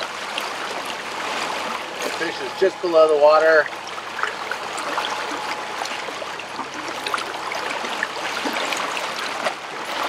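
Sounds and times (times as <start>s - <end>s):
sea water splashing against hull: 0.0s - 10.0s.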